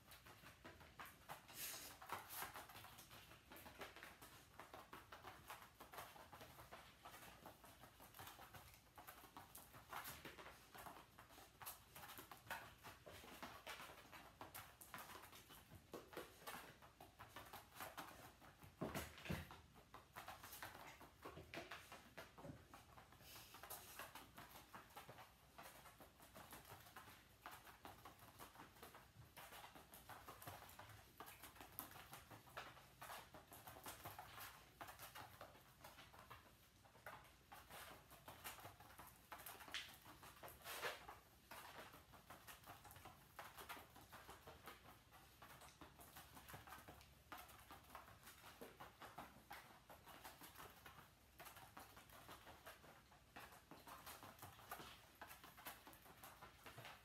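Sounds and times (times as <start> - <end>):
dog paws pattering on mats: 0.0 - 57.0.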